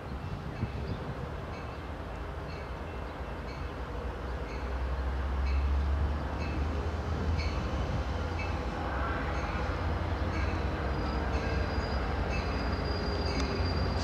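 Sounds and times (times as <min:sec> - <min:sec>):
train rumbling on tracks: 0:00.0 - 0:14.0.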